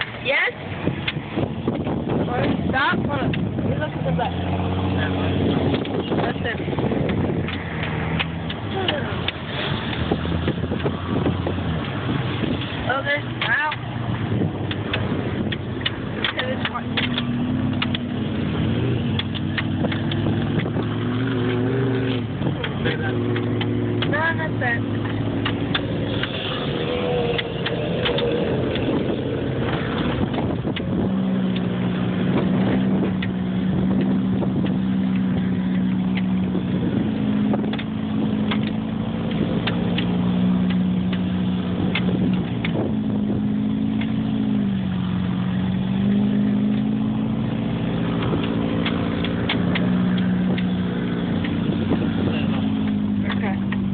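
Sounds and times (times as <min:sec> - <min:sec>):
vehicle engine drone: 0:00.0 - 0:53.9.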